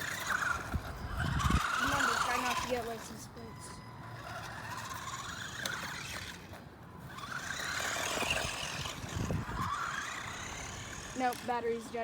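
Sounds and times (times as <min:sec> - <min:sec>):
rc car electric motor whining: 0:00.0 - 0:12.0.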